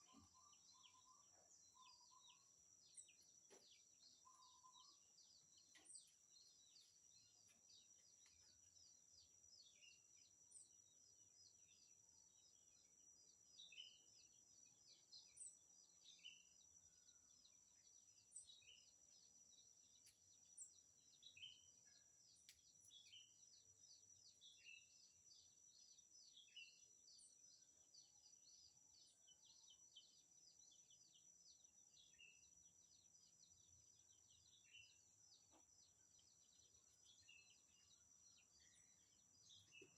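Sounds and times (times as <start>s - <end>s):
faint bird chirps: 0.0s - 39.9s.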